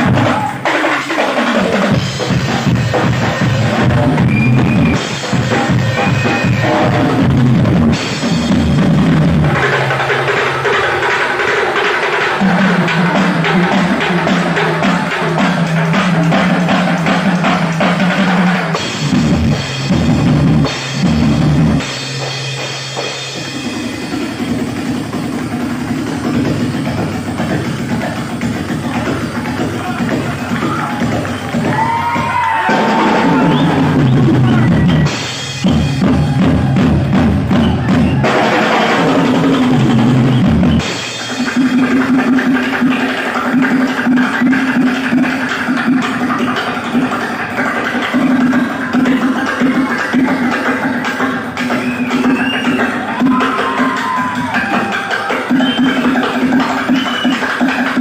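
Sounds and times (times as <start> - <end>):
band accompaniment: 0.0 - 58.0
drum kit solo: 0.0 - 58.0.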